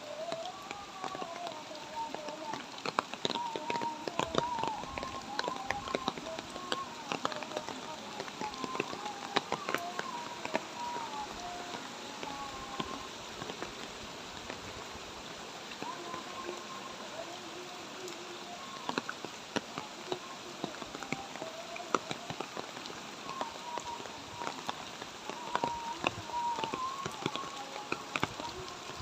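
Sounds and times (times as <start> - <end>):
light rain falling: 0.0 - 29.0
raindrops ticking close by: 0.0 - 29.0.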